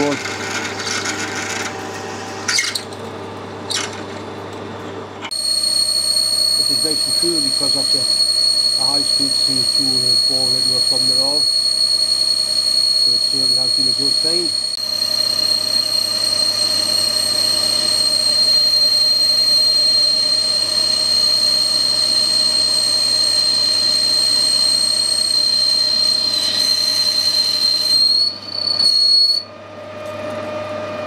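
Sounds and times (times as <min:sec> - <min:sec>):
lathe humming: 0:00.0 - 0:02.9, 0:05.3 - 0:28.7
high-pitched squeal of metal cutting: 0:00.0 - 0:03.0, 0:05.3 - 0:29.5.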